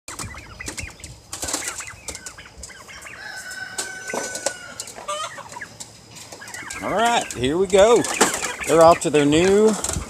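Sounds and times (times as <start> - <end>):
wings flapping and scuffling: 0.1 - 10.0
young turkeys chirping: 0.1 - 10.0.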